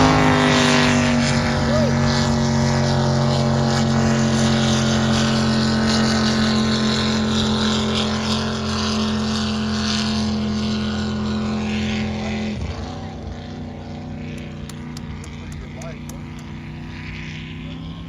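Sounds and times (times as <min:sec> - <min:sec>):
boat engine deep drone: 0:00.0 - 0:18.0.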